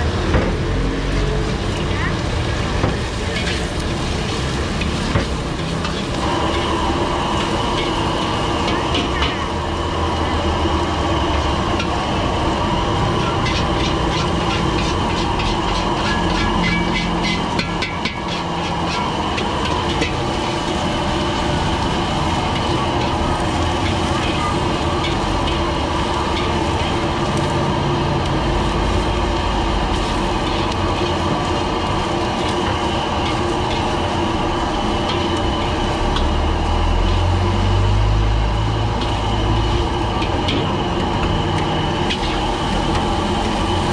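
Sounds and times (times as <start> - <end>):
food sizzling: 0.0 - 43.9
gas burner running: 0.0 - 43.9
metal spatula scraping wok: 1.5 - 43.9.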